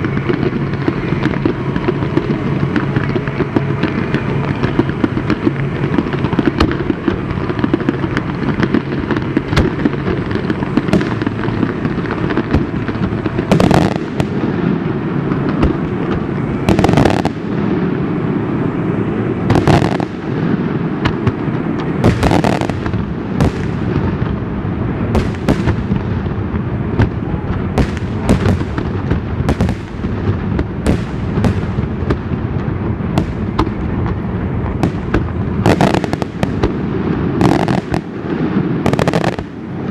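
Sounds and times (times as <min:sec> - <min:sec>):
sharp firework bangs: 0:00.0 - 0:18.4, 0:19.4 - 0:39.9.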